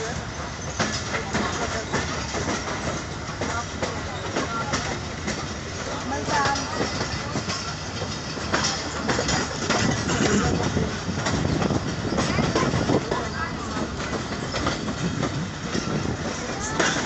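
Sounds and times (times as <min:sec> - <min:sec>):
train rumbling at speed: 0:00.0 - 0:17.0
wheels clacking over rail joints: 0:00.0 - 0:17.0.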